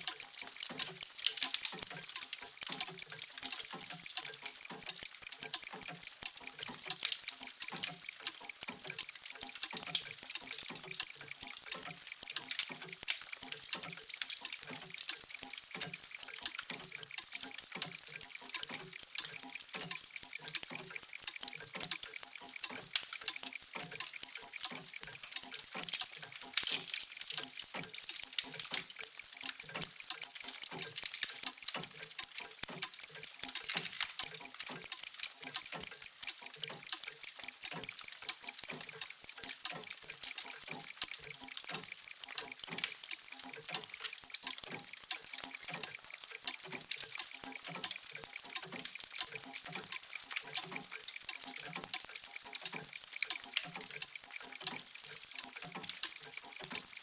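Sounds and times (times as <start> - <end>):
mechanical clocks ticking: 0.0 - 57.0.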